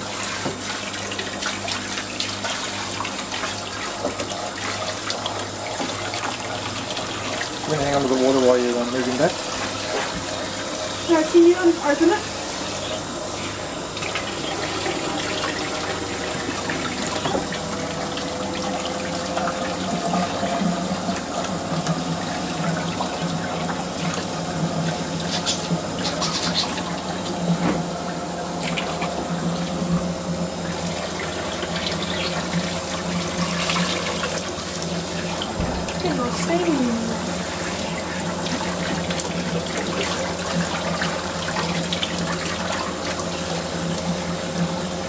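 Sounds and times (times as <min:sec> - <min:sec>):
hose water splashing into tub: 0:00.0 - 0:45.0.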